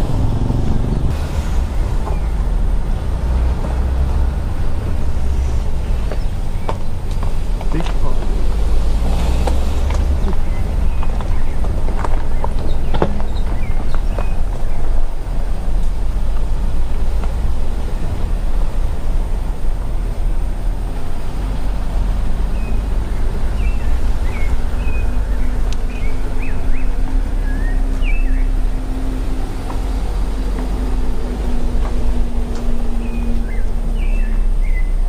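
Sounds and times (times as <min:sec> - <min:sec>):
birds chirping: 0:00.0 - 0:35.0
car engine and tyres rumbling: 0:00.0 - 0:35.0.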